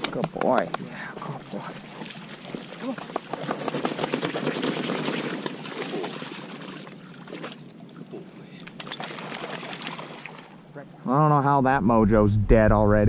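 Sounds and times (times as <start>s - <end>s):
water splashing: 0.0s - 10.7s.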